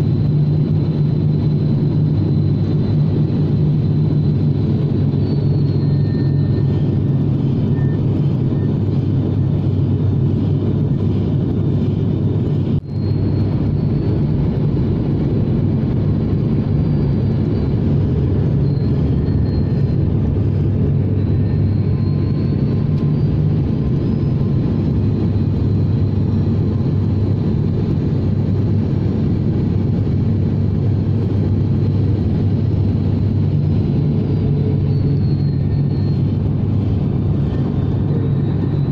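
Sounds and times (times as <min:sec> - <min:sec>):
airplane engine drone in cabin: 0:00.0 - 0:38.9.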